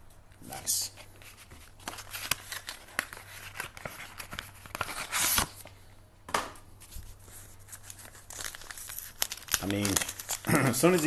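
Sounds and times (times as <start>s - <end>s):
paper wrapping rustling: 1.0s - 5.8s, 6.8s - 11.0s.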